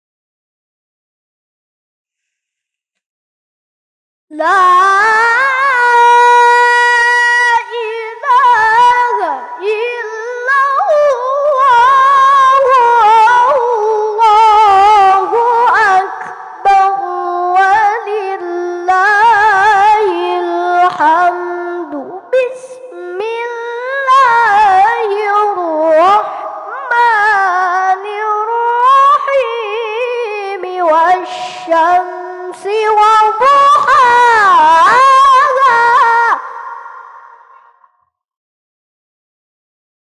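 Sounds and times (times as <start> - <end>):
boy chanting into a microphone: 4.3 - 37.3.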